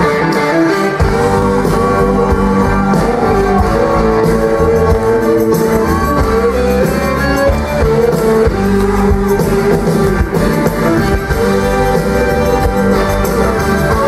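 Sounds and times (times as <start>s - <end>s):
live pop-rock band playing: 0.0s - 14.0s.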